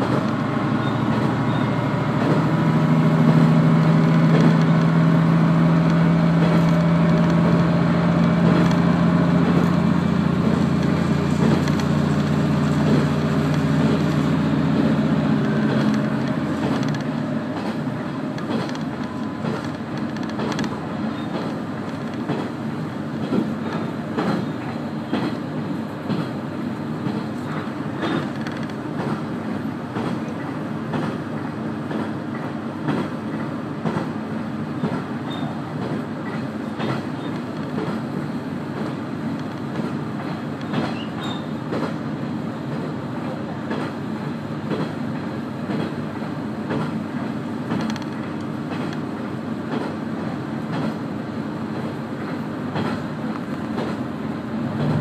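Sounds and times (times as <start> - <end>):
diesel railcar engine: 0.0 - 55.0
rail joint clicks: 0.0 - 55.0
wheel and rail noise: 0.0 - 55.0.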